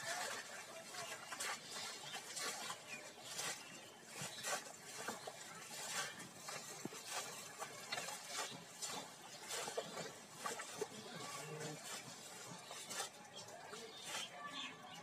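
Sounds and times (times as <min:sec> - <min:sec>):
legs wading through water: 0:00.0 - 0:15.0
muddy water splashing: 0:00.0 - 0:15.0.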